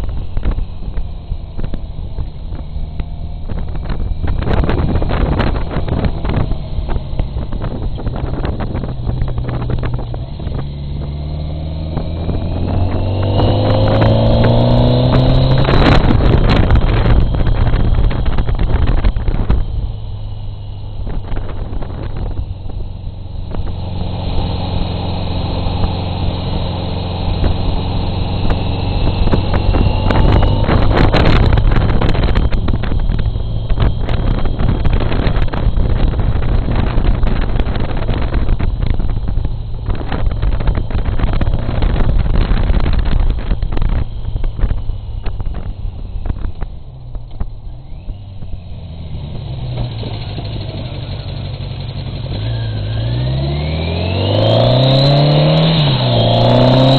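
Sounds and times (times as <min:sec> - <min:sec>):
wind buffeting: 0:00.0 - 0:20.0, 0:20.8 - 0:48.6
motorcycle engine running: 0:00.0 - 0:56.9.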